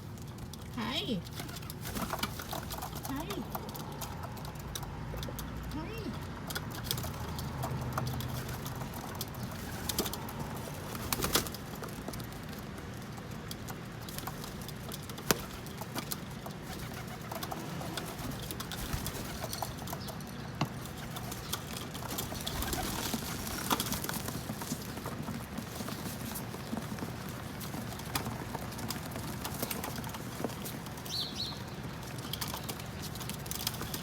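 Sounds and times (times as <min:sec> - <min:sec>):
beaks and feet tapping on roof: 0:00.0 - 0:34.0
pigeons cooing: 0:01.3 - 0:11.8, 0:15.1 - 0:20.1, 0:20.8 - 0:34.0.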